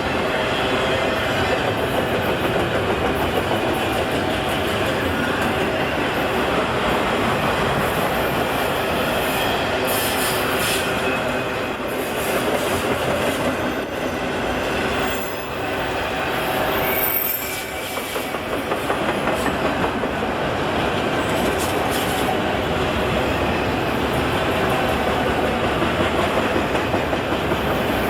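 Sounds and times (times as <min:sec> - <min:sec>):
freight train wheels on rails: 0:00.0 - 0:28.0.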